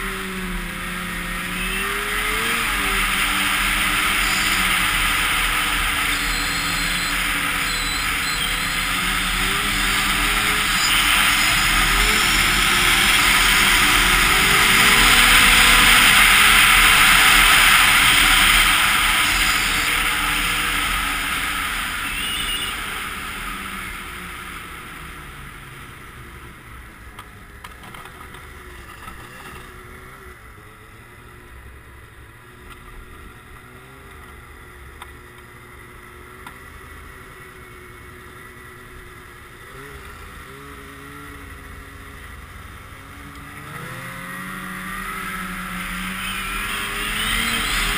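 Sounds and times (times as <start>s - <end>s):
snowmobile engine running: 0.0s - 47.9s.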